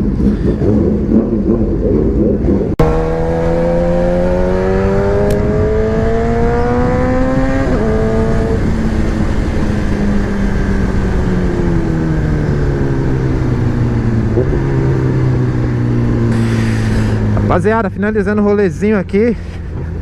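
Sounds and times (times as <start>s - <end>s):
motorcycle engine revving: 0.0s - 18.0s
road and wind noise: 0.0s - 20.0s.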